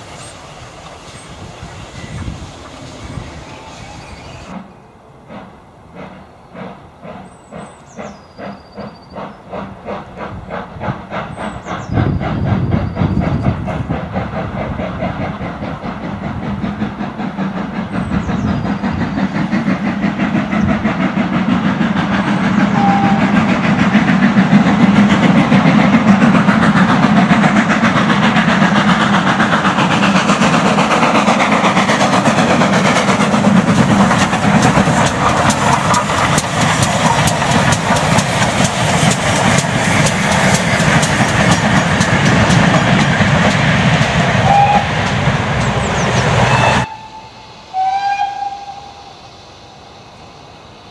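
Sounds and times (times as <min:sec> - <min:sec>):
steam hissing: 0:00.0 - 0:50.9
steam locomotive exhaust beats: 0:00.0 - 0:50.9.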